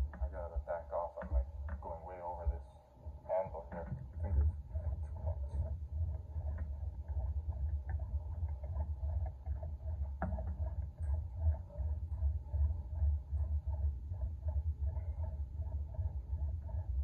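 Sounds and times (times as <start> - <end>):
cable pulley rumbling: 0.0 - 17.0.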